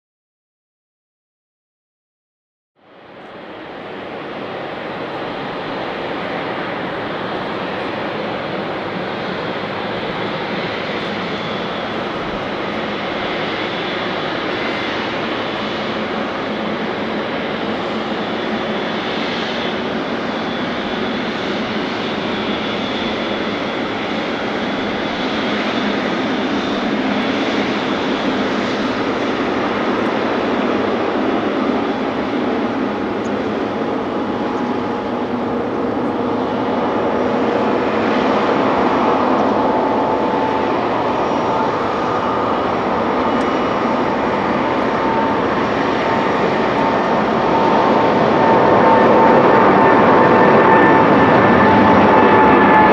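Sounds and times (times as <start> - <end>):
jet engine roar: 2.8 - 52.9
jet engine whine: 2.8 - 52.9.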